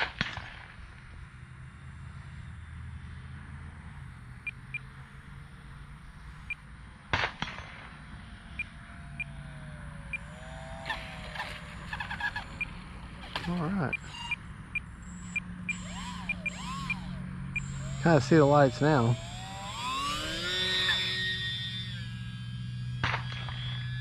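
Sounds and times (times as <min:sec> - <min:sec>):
low steady rumble: 0:00.8 - 0:24.0
small electric motor whine: 0:00.9 - 0:24.0.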